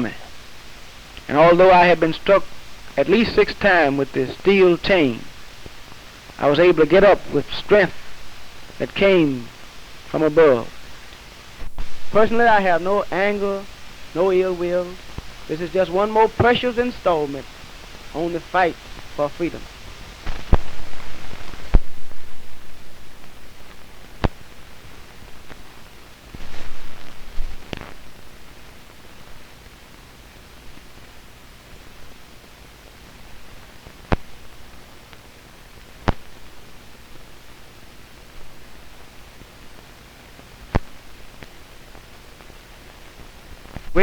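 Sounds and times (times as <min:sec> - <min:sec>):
film soundtrack hiss and crackle: 0:00.0 - 0:44.0.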